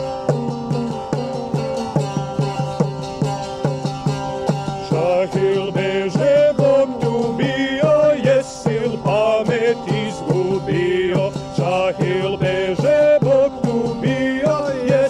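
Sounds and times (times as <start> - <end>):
hand drum beat: 0.0 - 15.0
plucked lute folk music: 0.0 - 15.0.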